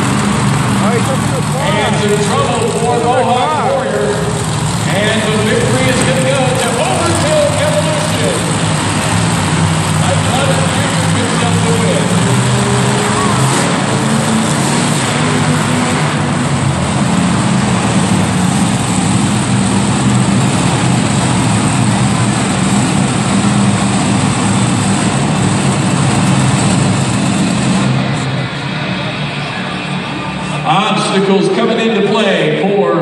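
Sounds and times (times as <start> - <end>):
monster truck engines running: 0.0 - 33.0.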